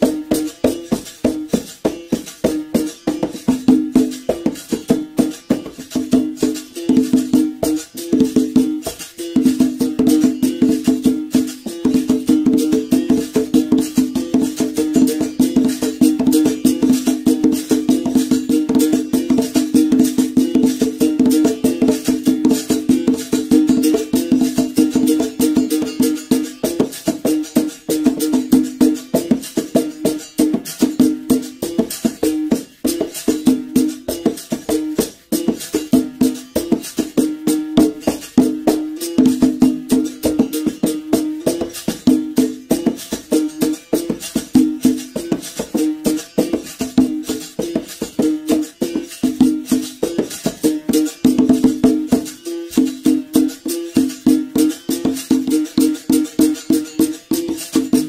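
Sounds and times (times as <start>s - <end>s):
shaker rattle: 0.0s - 58.0s.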